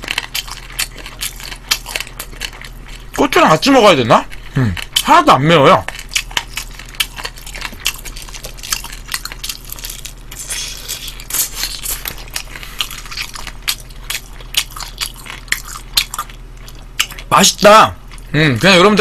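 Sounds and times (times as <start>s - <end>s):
chewing crispy fried chicken: 0.0s - 19.0s.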